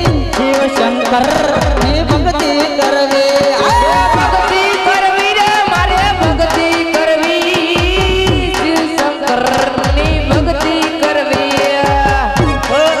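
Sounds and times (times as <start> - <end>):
hand-drum strokes: 0.0 - 13.0.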